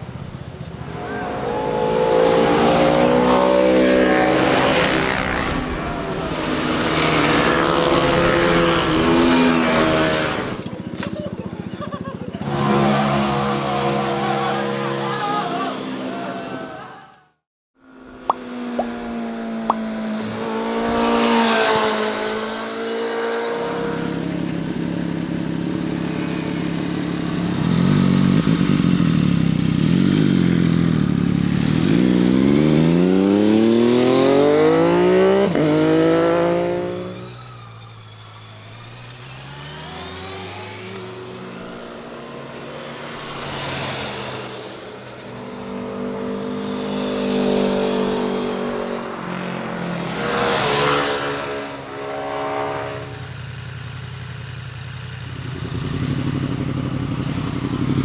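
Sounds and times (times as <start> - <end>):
motorcycles revving past: 0.0 - 11.2, 12.4 - 16.6, 18.2 - 58.0.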